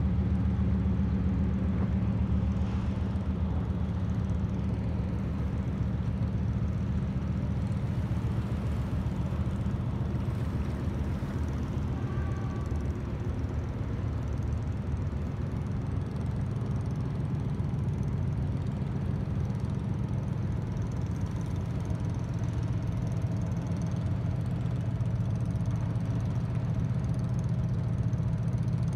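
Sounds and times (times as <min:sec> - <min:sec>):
diesel engine rumbling: 0:00.0 - 0:28.9.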